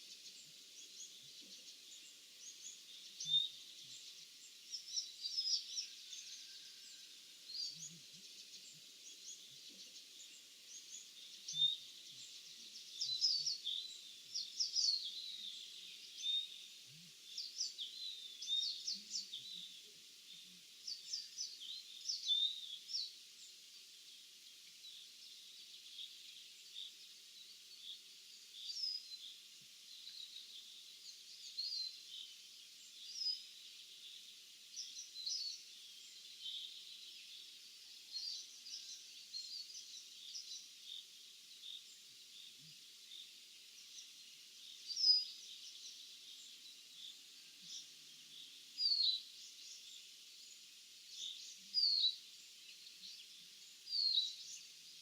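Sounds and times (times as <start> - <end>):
faint steady hiss: 0.0 - 55.0
small birds chirping: 0.0 - 55.0.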